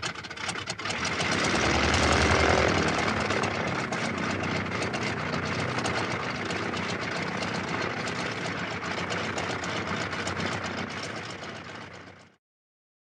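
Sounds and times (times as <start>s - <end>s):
propeller engine idling: 0.0s - 12.4s.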